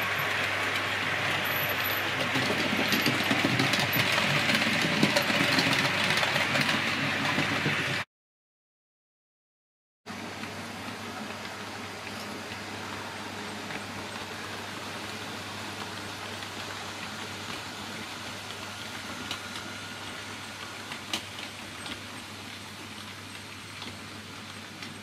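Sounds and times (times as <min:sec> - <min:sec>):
wheels clicking over rail joints: 0:00.0 - 0:08.0, 0:10.3 - 0:25.0.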